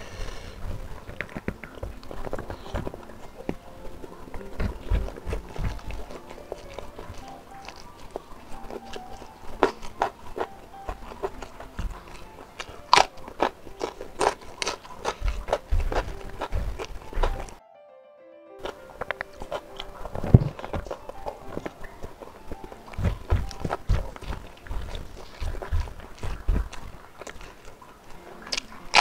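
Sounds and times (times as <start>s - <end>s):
person chewing food: 0.0s - 17.6s, 18.6s - 29.0s.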